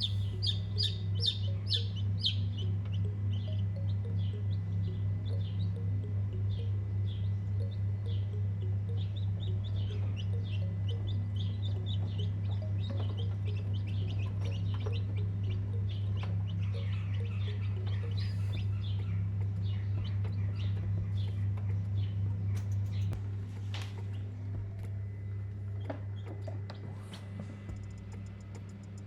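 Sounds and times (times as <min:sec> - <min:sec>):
baby chicks peeping: 0:00.0 - 0:29.0
steady low hum: 0:00.0 - 0:29.0.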